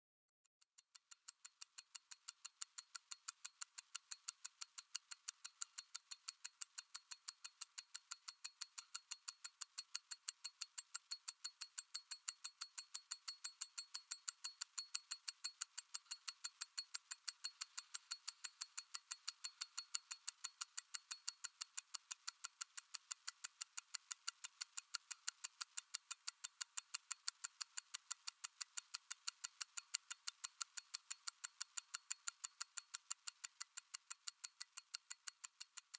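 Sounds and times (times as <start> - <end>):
wristwatch ticking: 0.6 - 35.9.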